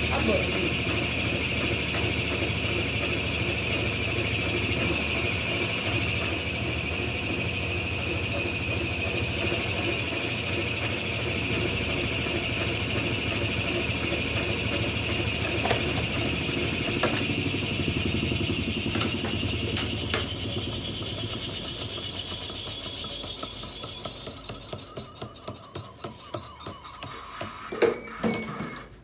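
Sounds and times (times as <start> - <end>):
washing machine spin winding down: 0.0 - 29.0.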